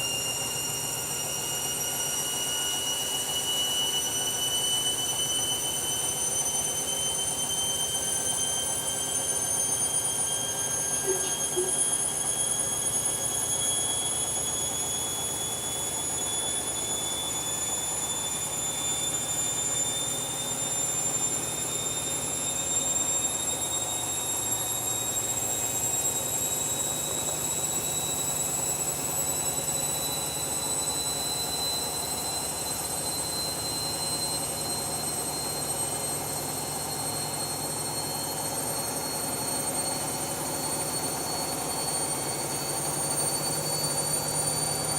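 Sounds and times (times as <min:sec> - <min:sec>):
washing machine spinning up: 0:00.0 - 0:44.9.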